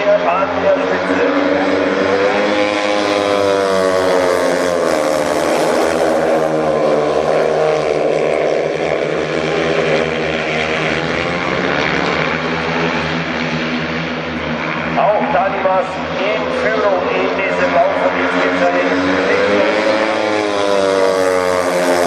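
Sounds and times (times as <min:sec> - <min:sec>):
motorcycles racing: 0:00.0 - 0:22.0.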